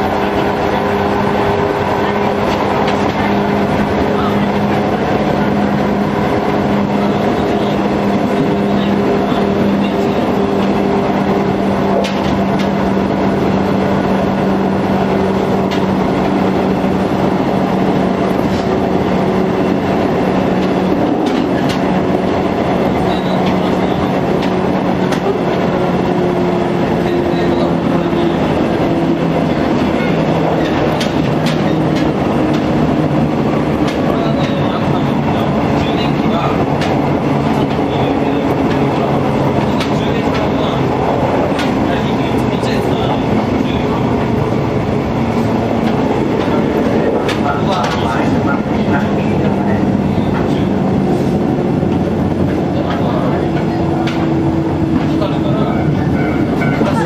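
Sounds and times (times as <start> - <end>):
rail joint clicks: 0.0 - 57.0
traction motor and gear hum: 0.0 - 57.0
wheel-on-rail rumble: 0.0 - 57.0.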